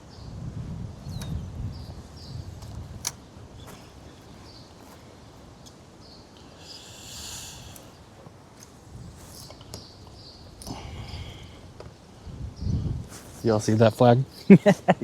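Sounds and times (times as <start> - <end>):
wind buffeting microphone: 0.0 - 6.0, 7.0 - 14.4.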